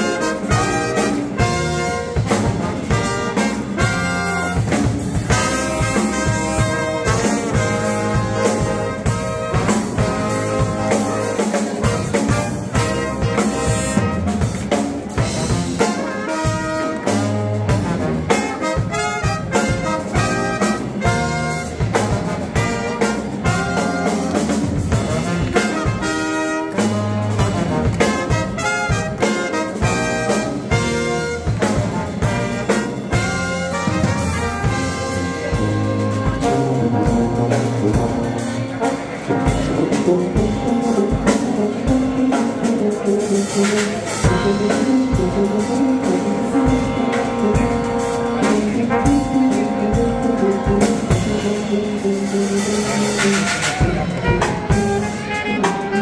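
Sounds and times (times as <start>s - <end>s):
brass band playing: 0.0s - 56.0s
steady drum beat: 0.0s - 56.0s.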